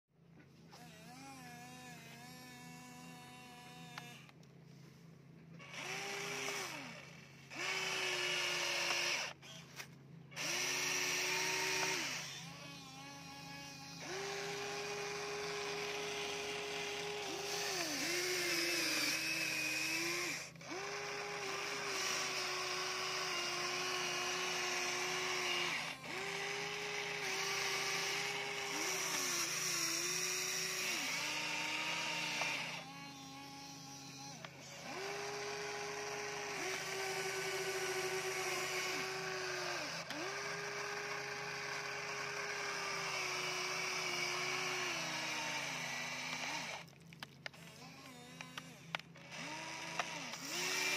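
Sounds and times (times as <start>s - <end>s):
toy excavator motors whining: 0.5s - 4.9s, 5.5s - 50.9s.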